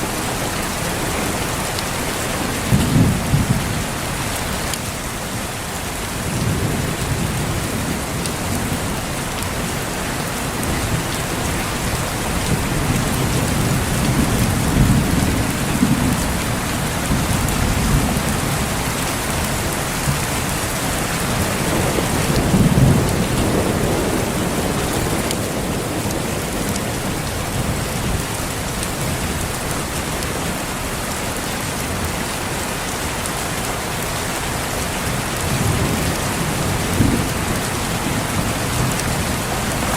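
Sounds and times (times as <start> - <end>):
heavy rain falling: 0.0 - 39.9
thunder rumbling: 0.5 - 4.7, 6.2 - 29.6, 35.4 - 39.9.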